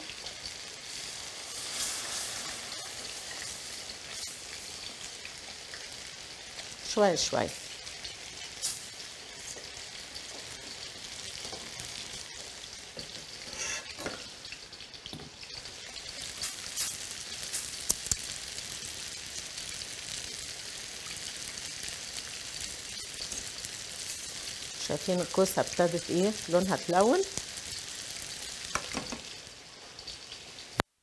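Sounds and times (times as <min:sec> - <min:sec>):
zucchini sizzling in oil: 0:00.0 - 0:30.9.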